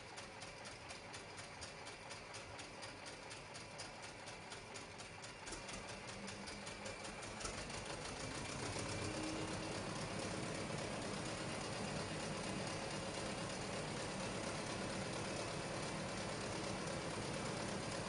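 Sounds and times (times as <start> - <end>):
tractor engines ticking over loudspeakers: 0.0 - 18.0.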